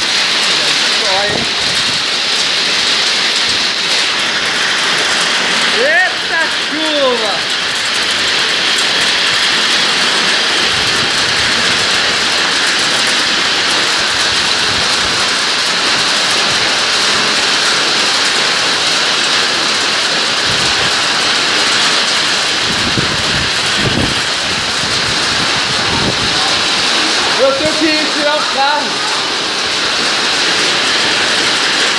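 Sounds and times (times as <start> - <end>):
hail and heavy rain pelting: 0.0 - 31.9.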